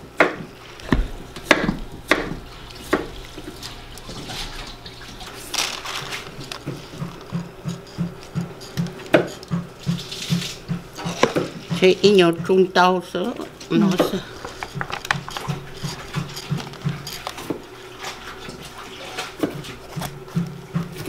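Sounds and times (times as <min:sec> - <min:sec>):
bowl scraping wet rice: 0:00.5 - 0:11.6, 0:14.0 - 0:20.4.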